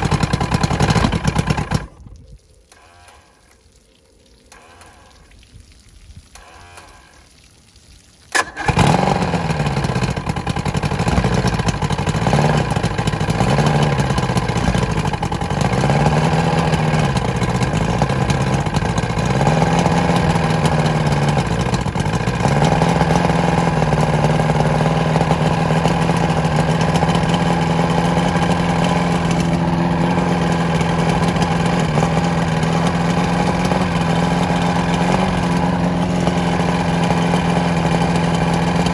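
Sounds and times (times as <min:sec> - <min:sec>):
outboard motor idling unevenly: 0:00.0 - 0:02.0, 0:02.7 - 0:03.5, 0:04.5 - 0:05.3, 0:06.4 - 0:07.3, 0:08.3 - 0:38.9.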